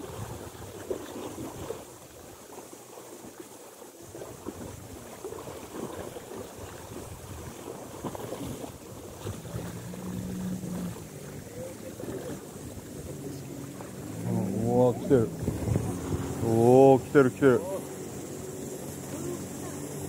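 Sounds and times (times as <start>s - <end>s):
waves lapping on rocks: 0.0s - 20.0s.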